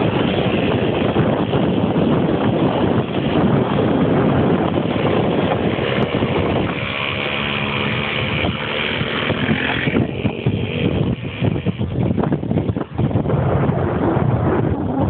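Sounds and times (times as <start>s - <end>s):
moped engine running: 0.0s - 14.7s
high engine whine: 0.0s - 15.0s
wind rush on microphone: 0.0s - 15.0s.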